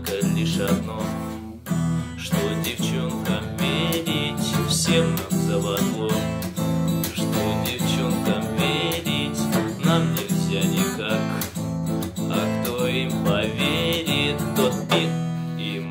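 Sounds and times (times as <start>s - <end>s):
acoustic guitar strumming chords: 0.0s - 15.9s.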